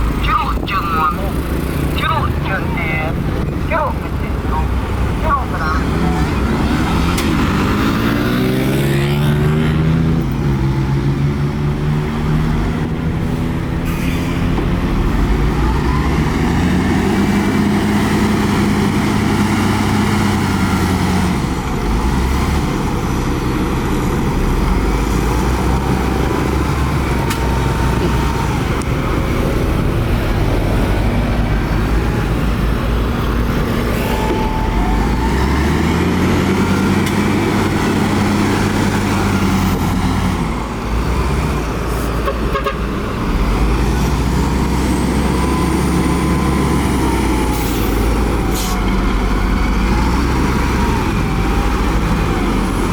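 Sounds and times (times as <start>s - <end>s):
heavy diesel engine under load: 0.0s - 52.9s.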